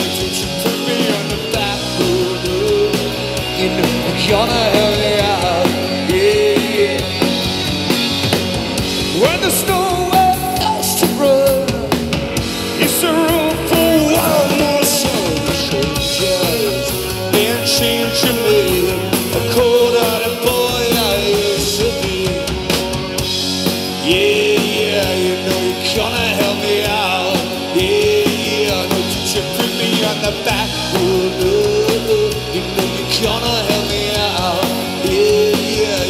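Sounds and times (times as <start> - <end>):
live rock band playing: 0.0 - 36.0
wavering melodic lead line: 0.0 - 36.0.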